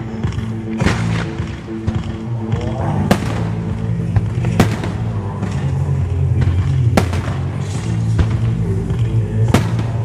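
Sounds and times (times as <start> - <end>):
background music: 0.0 - 10.0
fireworks bursting: 0.3 - 2.2, 3.0 - 10.0.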